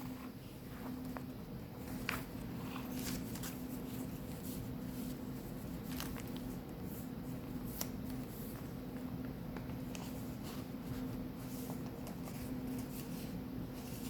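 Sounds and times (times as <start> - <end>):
steady low hum: 0.0 - 14.0
paper pages turning and rustling: 0.1 - 14.0.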